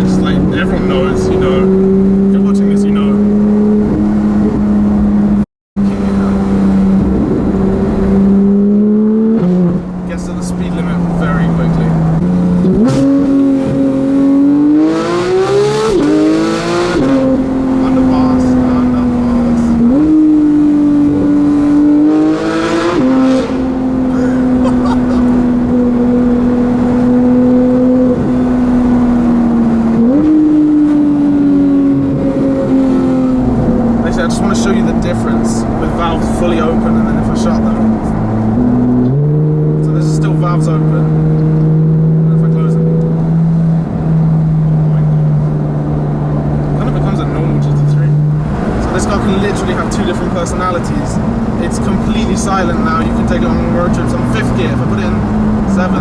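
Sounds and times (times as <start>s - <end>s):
sports car engine at mid revs: 0.0s - 56.0s.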